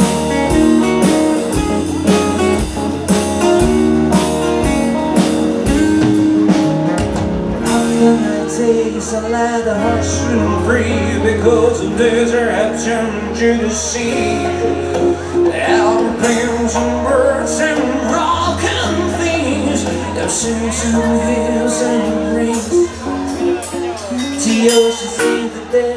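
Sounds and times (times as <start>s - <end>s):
acoustic guitar strumming: 0.0s - 25.9s
bass line: 0.0s - 25.9s.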